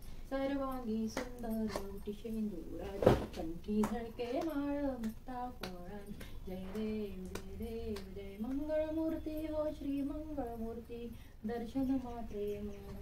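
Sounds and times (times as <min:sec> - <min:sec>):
woman singing a hymn: 0:00.3 - 0:13.0.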